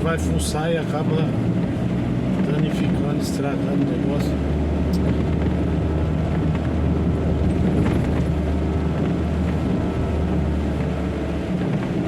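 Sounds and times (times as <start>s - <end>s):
truck engine drone inside cab: 0.0s - 12.0s.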